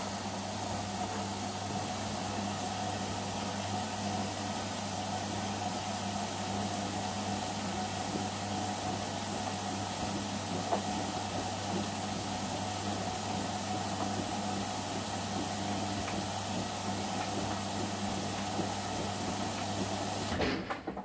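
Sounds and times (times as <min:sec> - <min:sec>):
washing machine drum tumbling clothes: 0:00.1 - 0:21.0.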